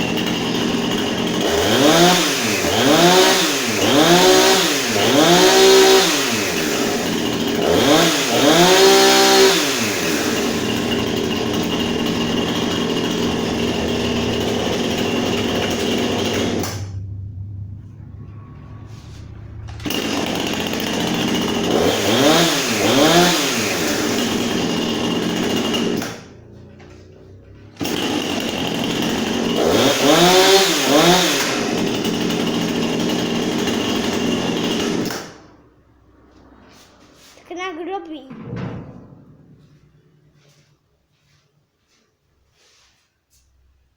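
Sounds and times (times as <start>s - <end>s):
chainsaw engine revving: 0.0s - 37.4s.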